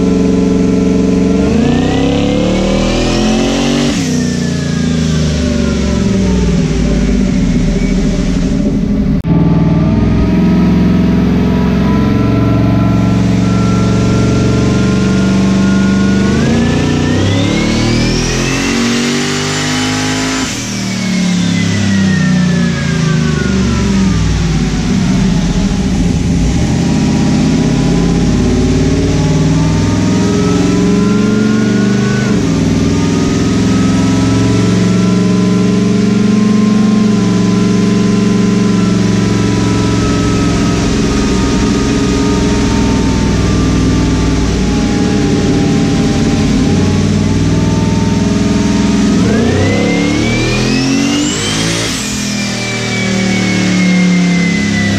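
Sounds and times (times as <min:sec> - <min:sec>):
engine revving with high whine: 0:00.0 - 0:54.9.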